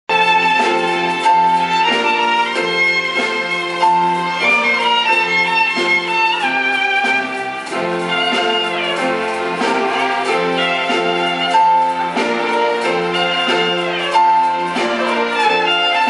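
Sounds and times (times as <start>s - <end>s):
violins playing melody: 0.1s - 16.0s.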